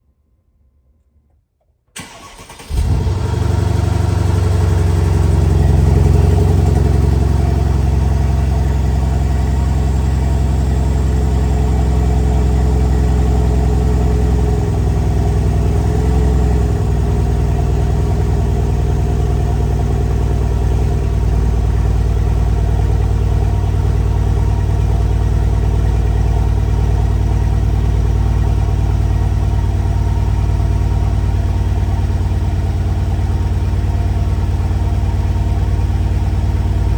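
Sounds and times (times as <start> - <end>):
car engine starting and idling: 2.0 - 36.9.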